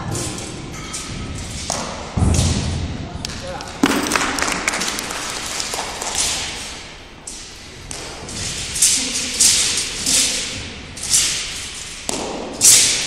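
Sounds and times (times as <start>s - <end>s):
faint echoing voices: 0.0s - 11.5s.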